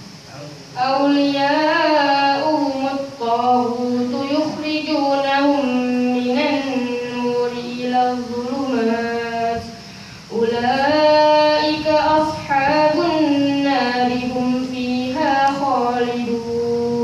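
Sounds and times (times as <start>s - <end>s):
boy chanting melodically: 0.8s - 17.0s.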